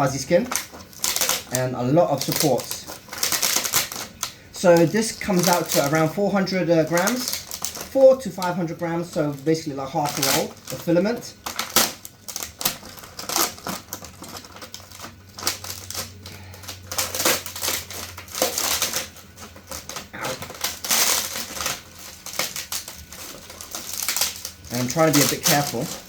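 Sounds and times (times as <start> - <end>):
plastic snapping and crackling: 0.0 - 26.0.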